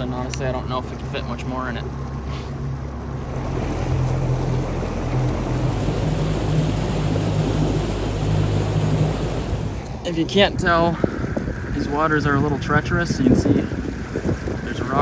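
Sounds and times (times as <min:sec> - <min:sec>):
outboard motor humming: 0:00.0 - 0:15.0
water rushing along hull: 0:00.0 - 0:15.0
wind on microphone: 0:02.8 - 0:15.0.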